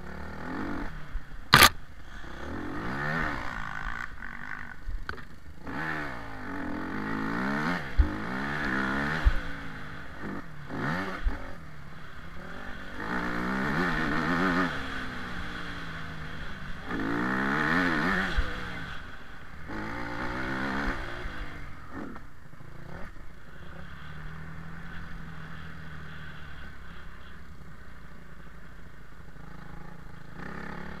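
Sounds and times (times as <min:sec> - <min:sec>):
motorcycle engine revving: 0:00.0 - 0:27.4, 0:29.3 - 0:31.0.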